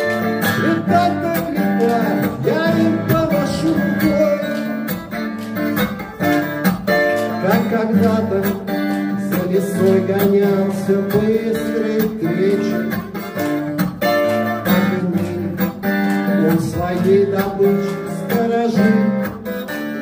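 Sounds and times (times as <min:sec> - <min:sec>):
man singing: 0:00.0 - 0:05.2, 0:07.2 - 0:13.3, 0:14.3 - 0:20.0
acoustic guitar strummed: 0:00.0 - 0:20.0.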